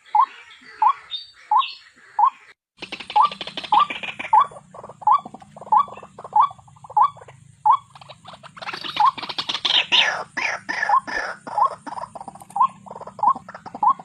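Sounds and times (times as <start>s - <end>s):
harsh croaking chatter: 2.2s - 14.0s.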